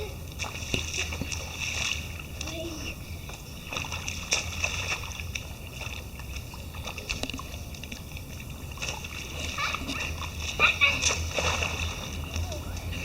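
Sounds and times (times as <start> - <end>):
children splashing in puddle: 0.0 - 13.0
steady low rumble: 0.0 - 13.0.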